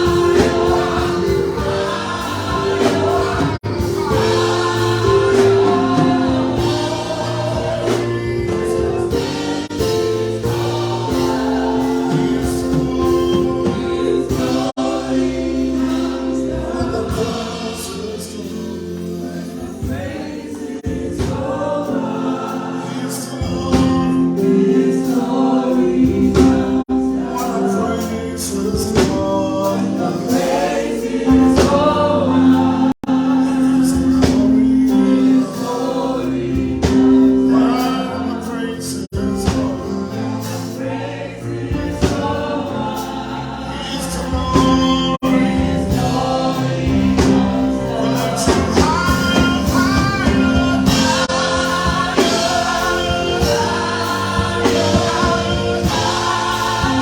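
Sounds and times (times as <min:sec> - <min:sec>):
gospel choir singing: 0:00.0 - 0:57.0.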